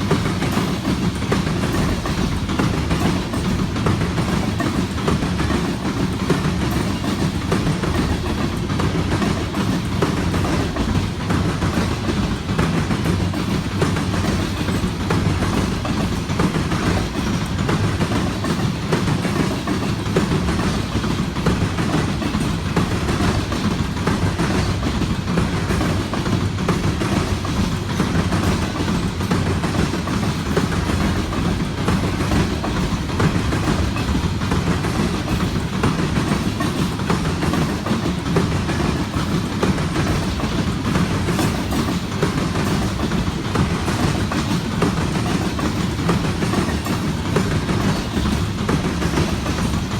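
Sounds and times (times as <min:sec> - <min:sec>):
freight train rolling past: 0:00.0 - 0:49.9.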